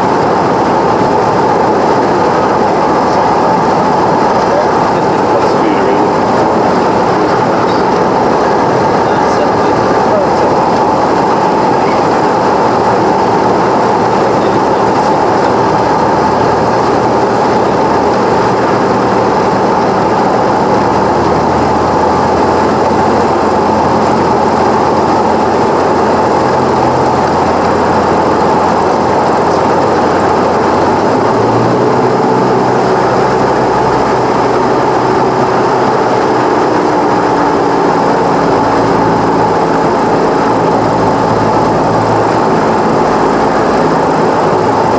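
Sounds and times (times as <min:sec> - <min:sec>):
piston engine and propeller running: 0:00.0 - 0:44.9.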